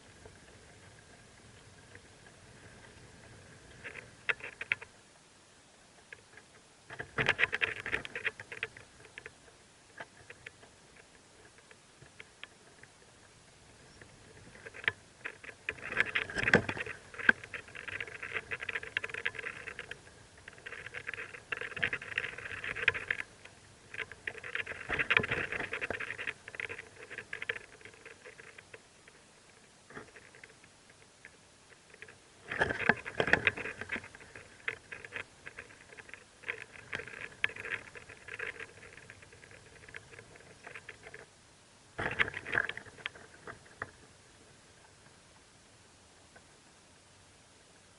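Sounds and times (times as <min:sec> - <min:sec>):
rustling and clicking in nest: 0:00.0 - 0:05.0, 0:06.0 - 0:45.5.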